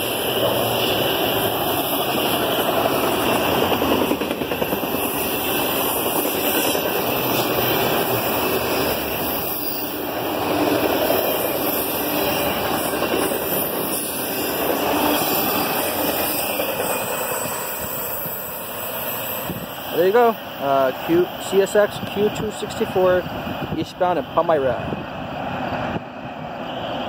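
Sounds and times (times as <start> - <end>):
steel wheels on rails: 0.0 - 24.0.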